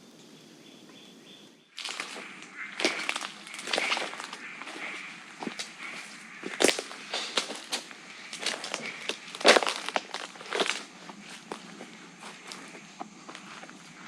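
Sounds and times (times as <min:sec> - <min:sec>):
footsteps crunching through brush: 0:01.7 - 0:14.0.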